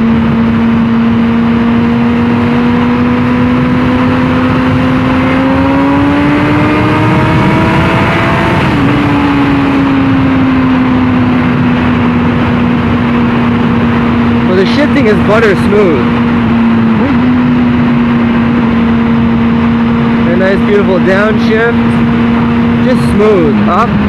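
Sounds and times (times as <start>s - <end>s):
wind rush: 0.0s - 24.0s.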